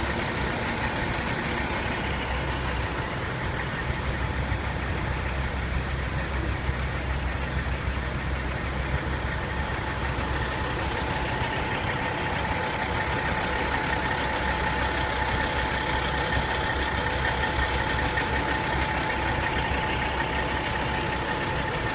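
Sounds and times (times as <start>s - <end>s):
truck diesel engines rumbling: 0.0s - 21.9s.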